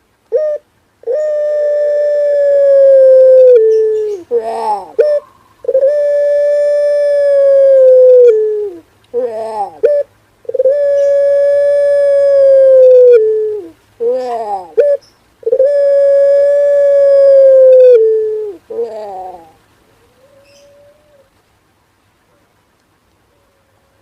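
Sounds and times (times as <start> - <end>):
dove cooing loudly: 0.3 - 21.3.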